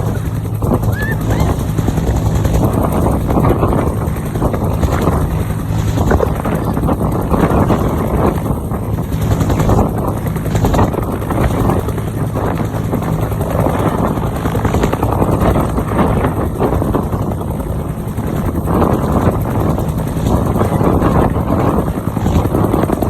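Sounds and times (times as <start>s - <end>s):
helicopter turbine and rotor: 0.0s - 23.0s.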